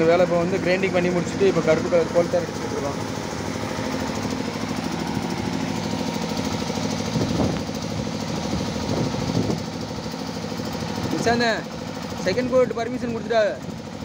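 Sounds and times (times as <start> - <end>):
small engine knocking: 0.0 - 14.0.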